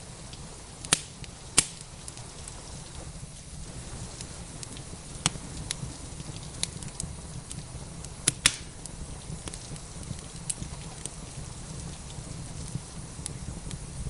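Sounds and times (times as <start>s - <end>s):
sharp pops of fire: 0.0s - 14.0s
steady low rumble: 0.0s - 14.0s
wood fire crackling: 0.0s - 14.0s.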